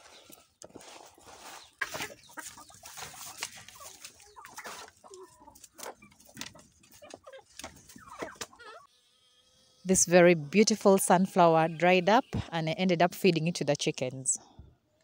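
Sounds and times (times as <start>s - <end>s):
chickens clucking: 0.0s - 13.7s.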